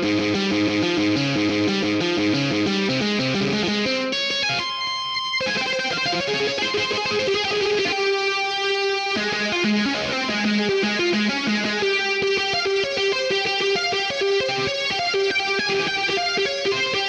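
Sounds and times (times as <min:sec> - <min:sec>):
electric guitar notes with effects: 0:00.0 - 0:17.0.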